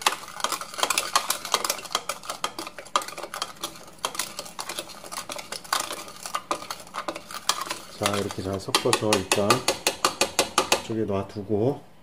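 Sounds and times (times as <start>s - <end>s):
wooden spoon stirring in plastic cup: 0.0s - 10.9s.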